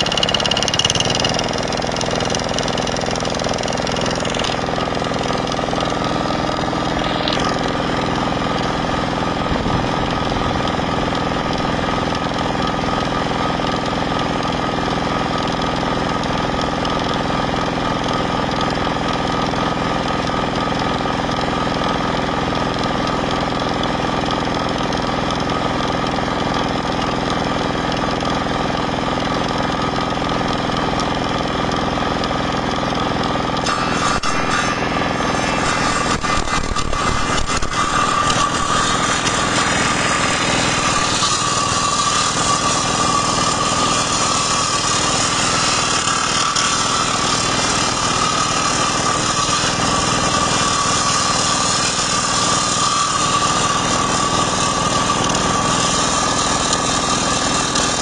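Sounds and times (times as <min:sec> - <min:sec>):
circular saw blade spinning: 0:00.0 - 0:58.0
diesel engine running: 0:00.0 - 0:58.0.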